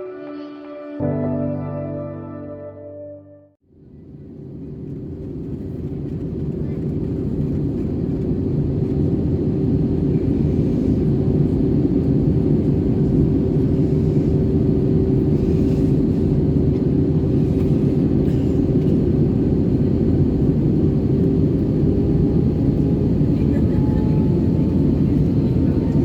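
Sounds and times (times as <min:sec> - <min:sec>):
aircraft cabin engine rumble: 0:03.7 - 0:26.0.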